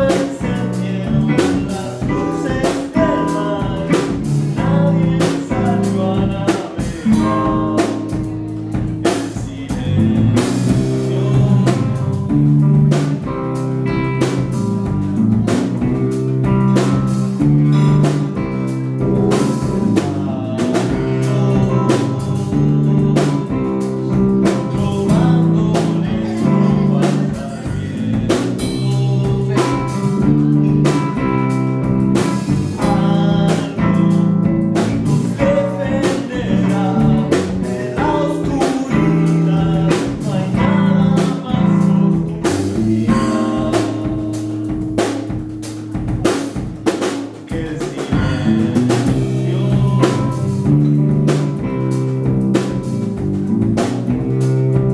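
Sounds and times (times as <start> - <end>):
band music: 0.0 - 54.9
drum kit beat: 0.0 - 54.9
guitar chords: 0.0 - 54.9.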